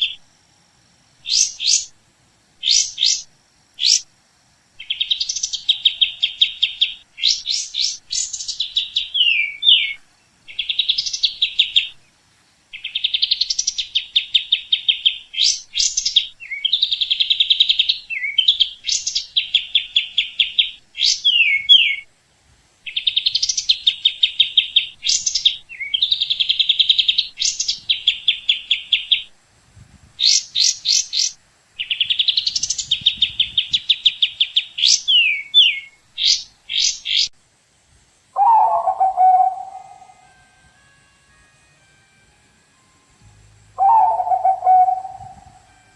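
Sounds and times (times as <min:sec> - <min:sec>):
songbird trilling song: 0:00.0 - 0:00.2, 0:01.2 - 0:02.0, 0:02.6 - 0:04.1, 0:04.8 - 0:12.1, 0:12.7 - 0:22.1, 0:22.9 - 0:29.3, 0:30.2 - 0:37.3, 0:38.4 - 0:40.3, 0:43.6 - 0:45.9.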